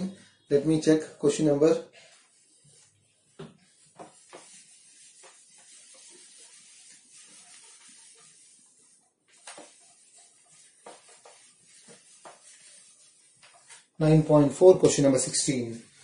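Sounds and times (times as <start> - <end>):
whiteboard being wiped: 1.4 - 16.0.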